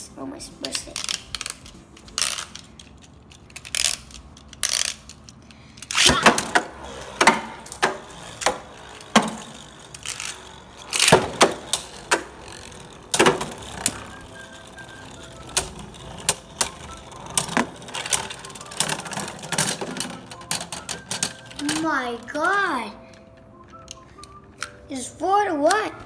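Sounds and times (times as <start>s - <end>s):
small plastic clicks: 0.6s - 24.8s
spinning tops clashing: 0.7s - 22.4s.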